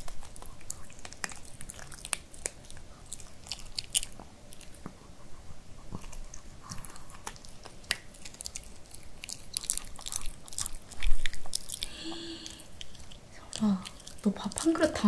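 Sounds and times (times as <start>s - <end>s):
dog chewing and licking lips: 0.0s - 15.0s.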